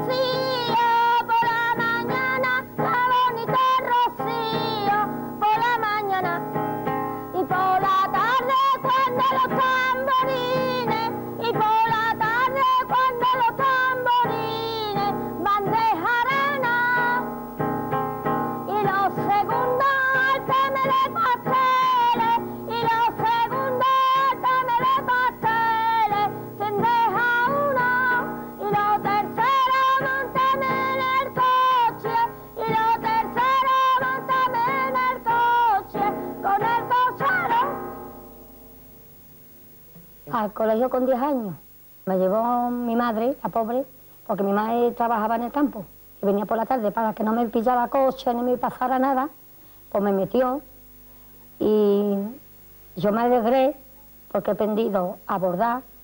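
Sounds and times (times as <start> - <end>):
woman singing with vibrato: 0.0 - 38.7, 40.2 - 50.7, 51.6 - 52.4, 53.0 - 56.0.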